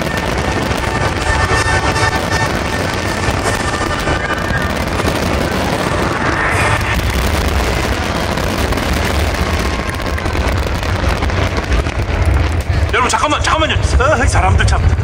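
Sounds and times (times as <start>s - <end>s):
fireworks booming and crackling: 0.0s - 15.0s.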